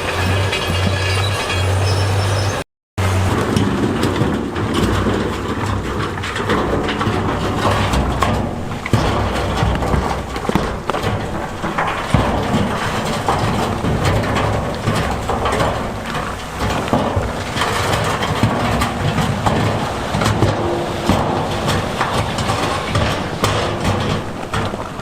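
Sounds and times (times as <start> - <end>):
rocks clattering against steel: 0.0 - 2.5, 3.2 - 25.0
heavy diesel engine under load: 0.0 - 25.0.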